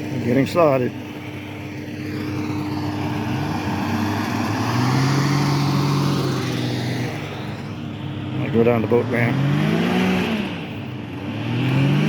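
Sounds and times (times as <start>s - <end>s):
hovercraft engines and propellers: 0.0s - 12.0s.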